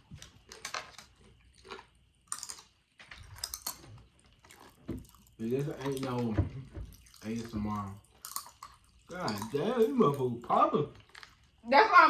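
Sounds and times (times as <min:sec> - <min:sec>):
popping candy crackling in mouth: 0:00.0 - 0:11.8.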